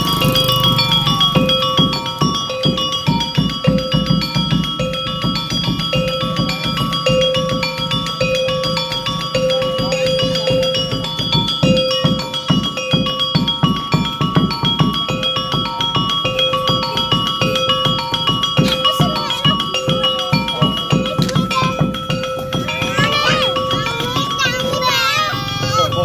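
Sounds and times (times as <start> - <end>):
fast steady drumbeat: 0.0 - 26.0
metallic mallet notes: 0.0 - 26.0.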